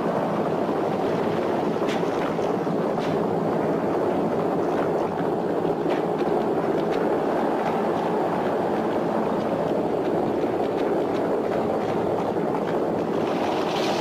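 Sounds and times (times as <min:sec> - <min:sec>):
galloping hooves and chariot wheels: 0:00.0 - 0:14.0.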